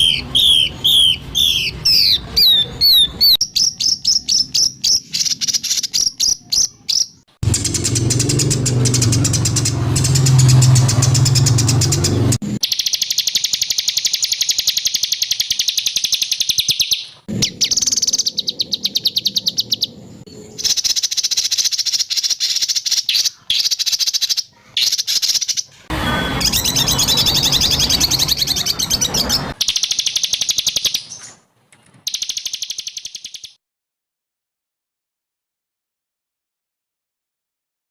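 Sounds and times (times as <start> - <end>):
harsh bird calls: 0.0 - 33.6
songbirds trilling: 0.0 - 33.6.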